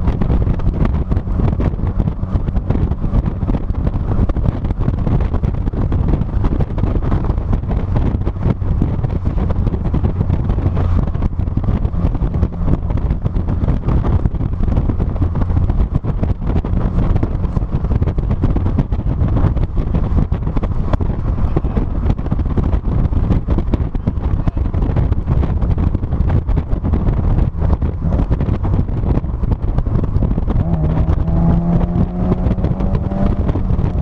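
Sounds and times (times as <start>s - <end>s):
car road and engine rumble: 0.0s - 34.0s
wind buffeting microphone: 0.0s - 34.0s.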